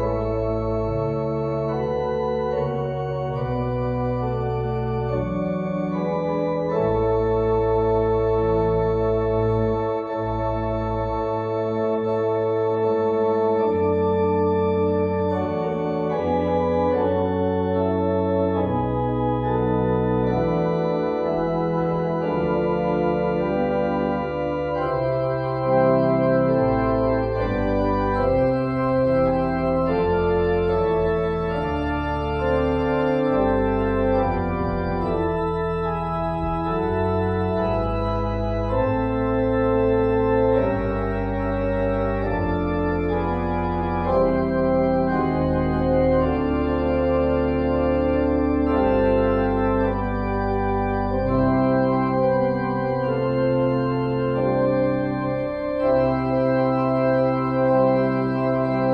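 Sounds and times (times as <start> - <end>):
organ playing slow chords: 0.0 - 58.9.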